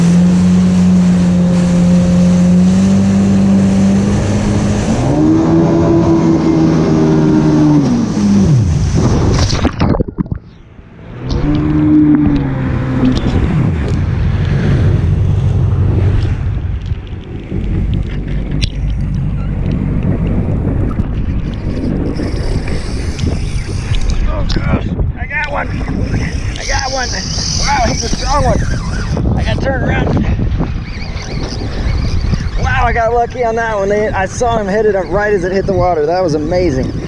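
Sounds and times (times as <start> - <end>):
jet ski engine revving: 0.0 - 9.7, 10.8 - 24.3, 25.3 - 37.0
water noise: 0.0 - 37.0
wind: 0.0 - 37.0.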